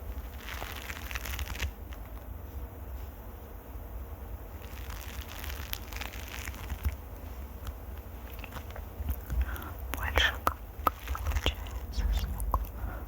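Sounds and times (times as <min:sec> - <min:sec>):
scratching on microphone: 0:00.0 - 0:02.2, 0:04.5 - 0:12.9.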